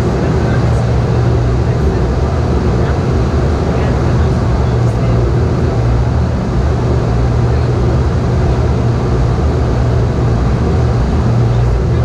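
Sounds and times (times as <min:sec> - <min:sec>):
airplane cabin engine drone: 0:00.0 - 0:12.0
low hum: 0:00.0 - 0:12.0.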